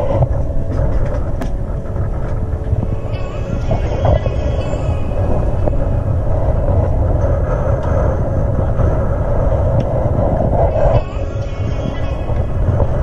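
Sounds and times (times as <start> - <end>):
boat engine rumbling: 0.0 - 13.0
water noise: 0.0 - 13.0
wind: 0.0 - 13.0.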